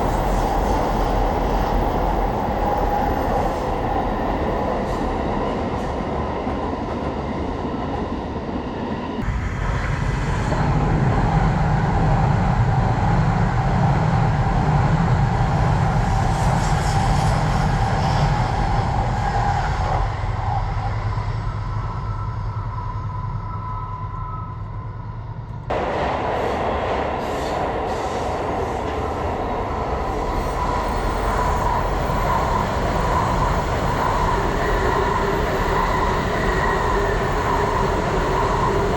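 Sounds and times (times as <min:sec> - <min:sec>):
trains rumbling on rails: 0:00.0 - 0:38.9.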